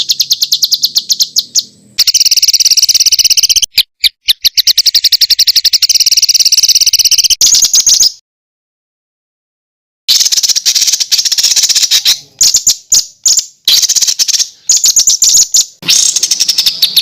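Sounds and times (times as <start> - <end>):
songbird staccato trill: 0.0 - 8.1, 10.1 - 17.0.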